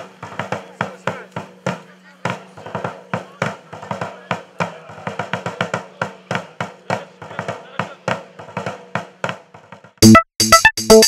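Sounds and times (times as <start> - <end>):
side drum march rhythm: 0.0 - 11.0.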